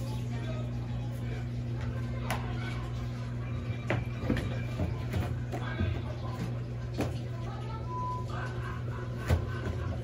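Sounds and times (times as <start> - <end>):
washing machine humming: 0.0 - 10.0.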